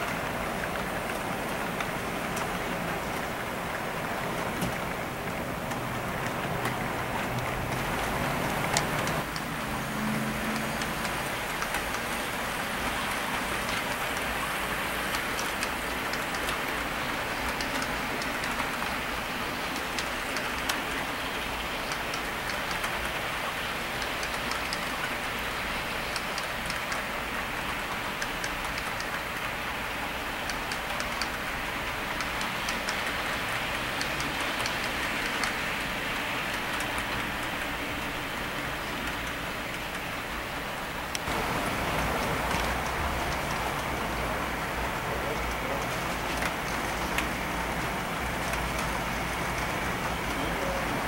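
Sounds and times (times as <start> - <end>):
model train rolling on track: 0.0 - 51.0
wheels clicking on rails: 0.0 - 51.0.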